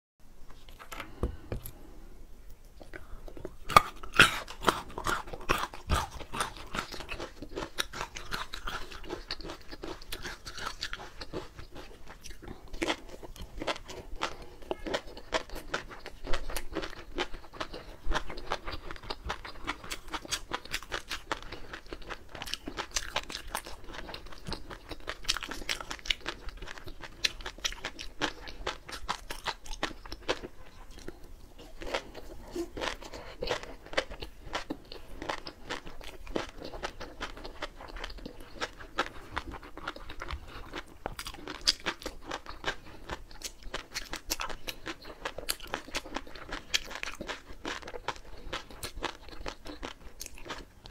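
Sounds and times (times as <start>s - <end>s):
close chewing with crunching clicks: 2.7s - 50.9s.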